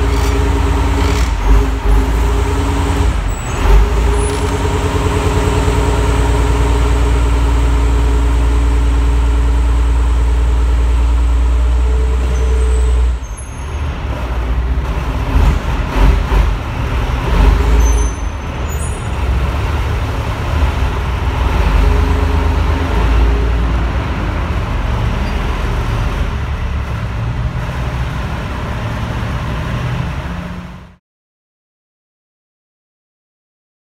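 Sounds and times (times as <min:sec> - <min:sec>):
tank engine running: 0:00.0 - 0:31.0.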